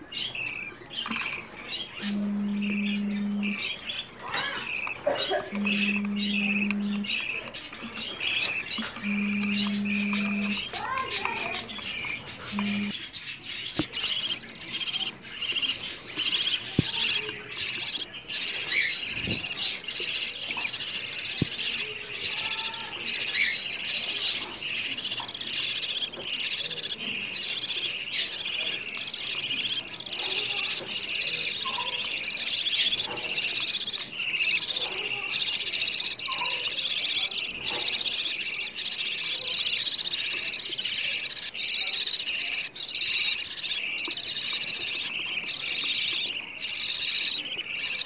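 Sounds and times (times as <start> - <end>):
budgerigars chirping: 0.0 - 48.0.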